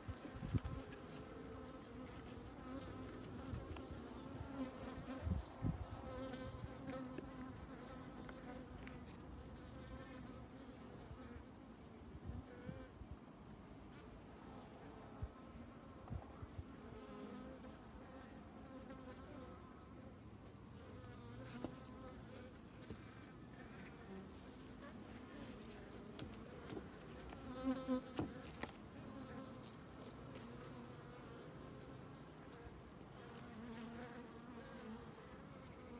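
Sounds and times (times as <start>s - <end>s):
bees buzzing: 0.0s - 11.4s, 16.8s - 35.9s.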